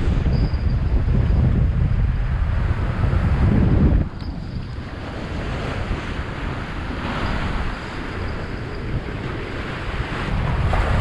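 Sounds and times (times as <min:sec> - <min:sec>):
choppy sea washing: 0:00.0 - 0:11.0
strong wind buffeting microphone: 0:00.0 - 0:11.0.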